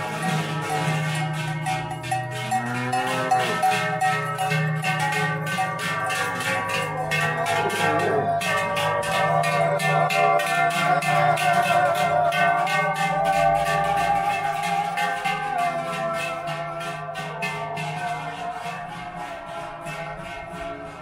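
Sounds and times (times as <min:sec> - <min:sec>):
cowbells clanging: 0:00.0 - 0:21.0.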